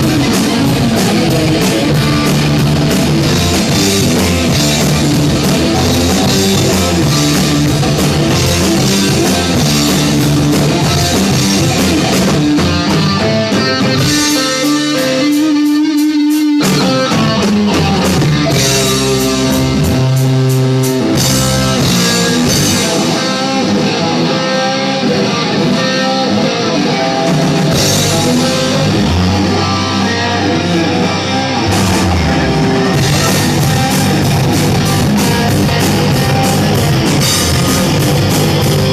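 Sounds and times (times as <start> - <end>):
bass guitar: 0.0 - 38.9
drum kit: 0.0 - 38.9
electric guitar: 0.0 - 38.9.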